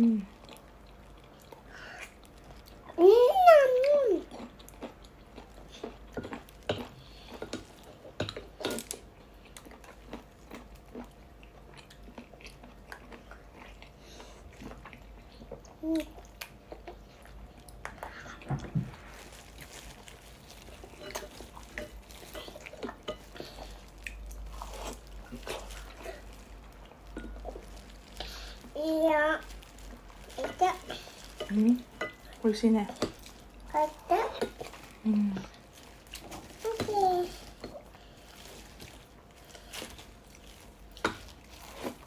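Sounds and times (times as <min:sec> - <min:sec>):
chewing with wet smacks: 0:00.3 - 0:03.0, 0:03.8 - 0:42.0.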